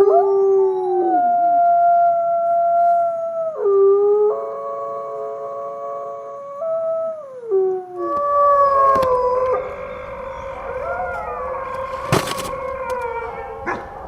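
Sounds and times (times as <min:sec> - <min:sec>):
wolves howling in chorus: 0:00.0 - 0:14.0.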